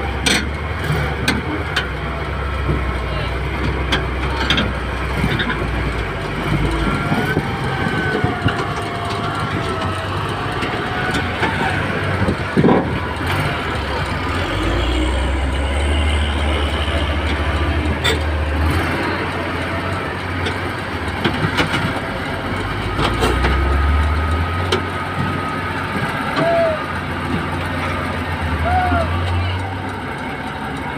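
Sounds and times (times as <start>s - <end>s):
bulldozer diesel engine rumbling: 0.0s - 30.9s.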